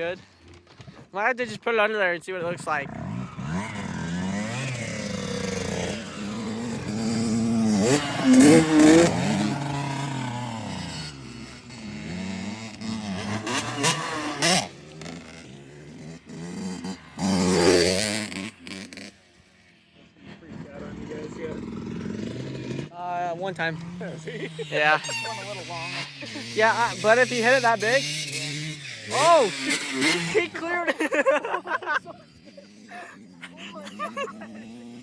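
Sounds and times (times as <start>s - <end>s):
dirt bike engine revving: 2.4s - 35.0s.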